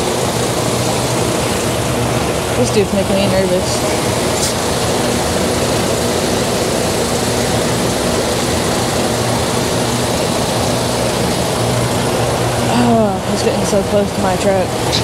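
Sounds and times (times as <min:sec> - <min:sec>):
constant hiss: 0:00.0 - 0:15.0
truck diesel engine idling: 0:00.0 - 0:15.0.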